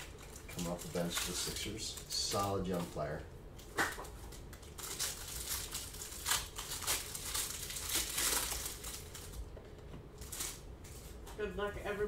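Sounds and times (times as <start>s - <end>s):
plastic wrapper crinkling: 0.0s - 9.5s, 10.1s - 11.2s.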